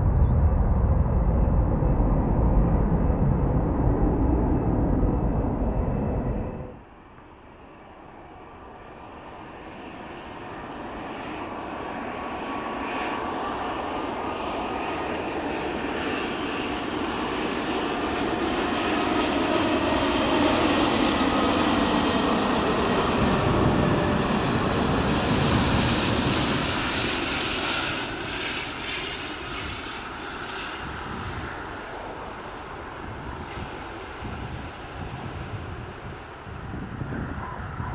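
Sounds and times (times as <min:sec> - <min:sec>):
jet airliner passing: 0:00.0 - 0:37.9.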